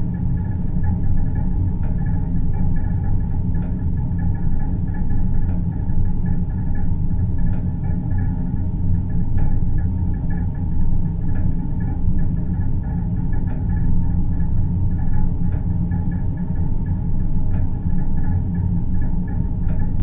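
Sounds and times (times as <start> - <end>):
low rumble and hum: 0.0 - 20.0.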